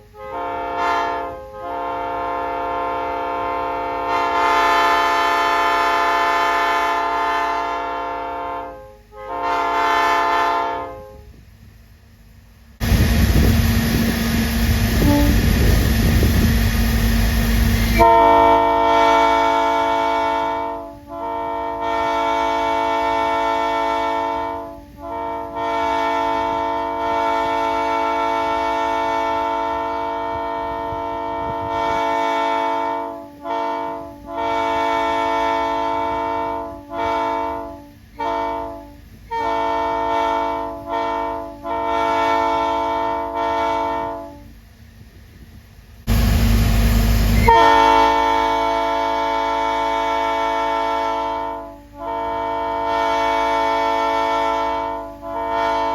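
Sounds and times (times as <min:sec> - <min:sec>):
locomotive air horn blasts: 0:00.0 - 0:11.4, 0:14.8 - 0:16.6, 0:17.7 - 0:44.6, 0:47.4 - 0:55.9.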